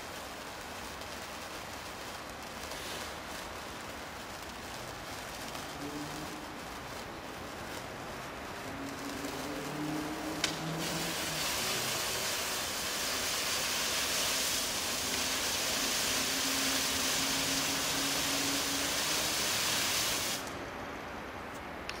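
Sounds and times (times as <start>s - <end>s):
firework sparks hissing: 0.0s - 21.6s.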